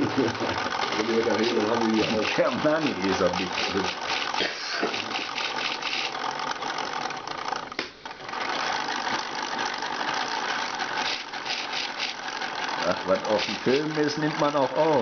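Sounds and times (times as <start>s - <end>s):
plastic gear chatter: 0.0s - 7.6s, 9.0s - 15.0s
electric motors whirring: 0.0s - 15.0s.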